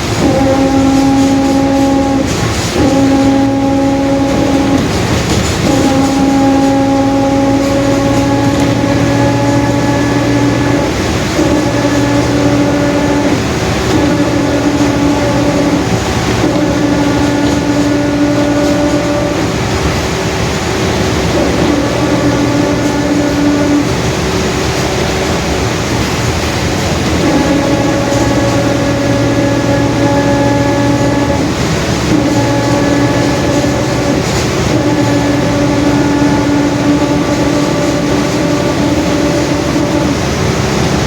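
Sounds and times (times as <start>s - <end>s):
diesel engine running: 0.0s - 41.0s
differential whine: 0.0s - 41.0s.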